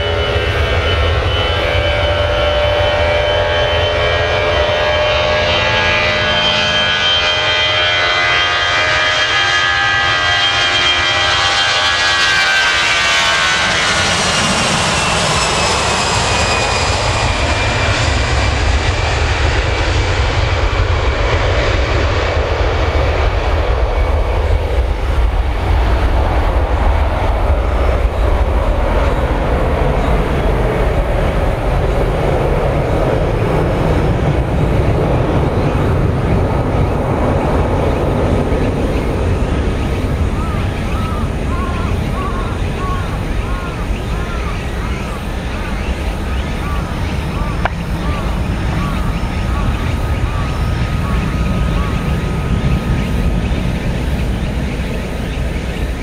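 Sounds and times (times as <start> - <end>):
deep jet rumble: 0.0 - 56.0
jet engine rushing roar: 0.0 - 56.0
jet engine whine: 0.0 - 56.0.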